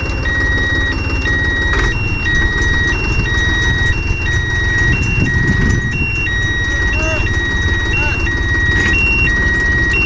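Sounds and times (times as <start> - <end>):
engine rumble: 0.0 - 10.0
vehicle warning beeper: 0.0 - 10.0.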